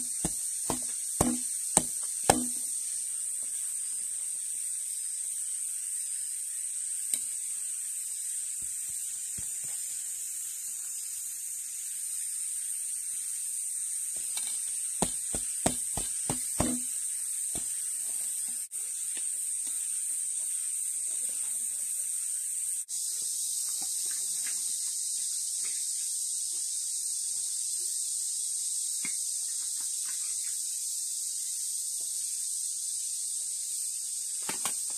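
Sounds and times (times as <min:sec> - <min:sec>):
steady high hiss: 0:00.0 - 0:34.9.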